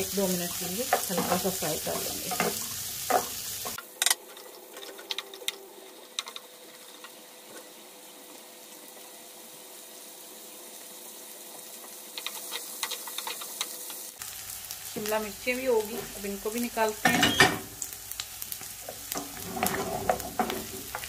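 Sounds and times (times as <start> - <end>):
peppers sizzling in a frying pan: 0.0 - 21.0.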